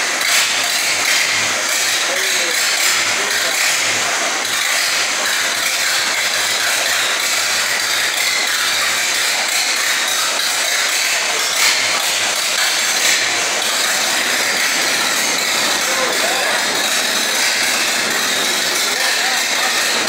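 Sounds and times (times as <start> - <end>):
truck engine clattering: 0.0 - 20.0.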